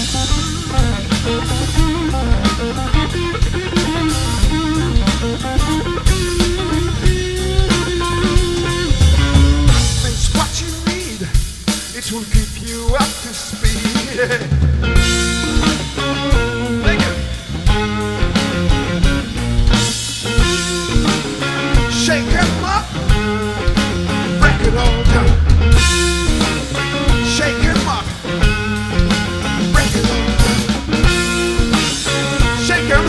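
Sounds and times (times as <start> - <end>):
electric guitar lead lines: 0.0 - 33.0
rock drum kit: 0.0 - 33.0.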